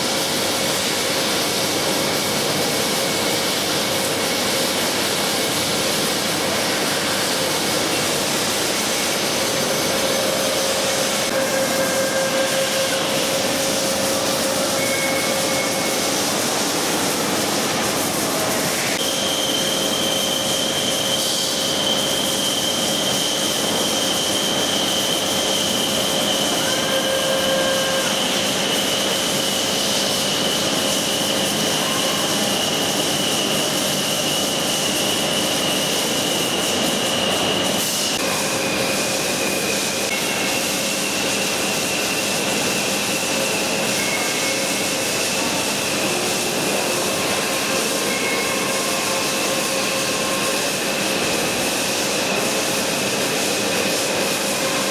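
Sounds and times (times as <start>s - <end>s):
boring machine hum and whine: 0.0s - 54.9s.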